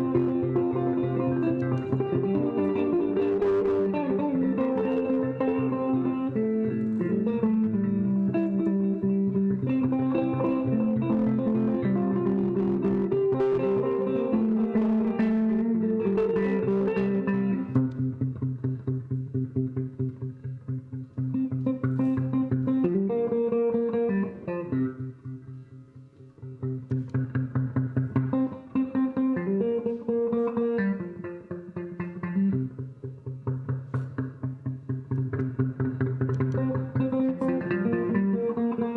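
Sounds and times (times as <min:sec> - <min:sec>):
plucked string instrument music: 0:00.0 - 0:38.9.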